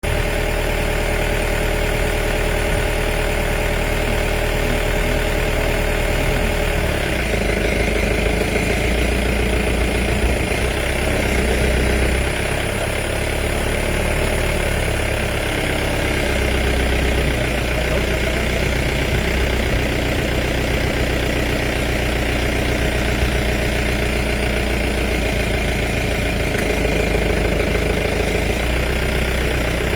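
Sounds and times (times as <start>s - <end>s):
vehicle engine idling: 0.0s - 29.9s.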